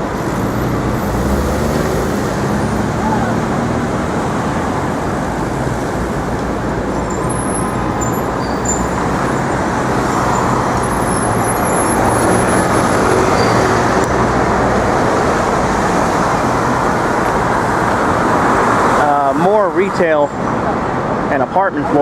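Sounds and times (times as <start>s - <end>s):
passing road traffic: 0.0s - 22.0s.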